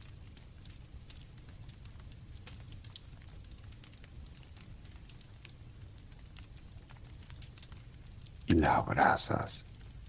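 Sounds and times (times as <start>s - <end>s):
campfire crackling and popping: 0.0s - 10.0s
crickets chirping: 0.0s - 10.0s.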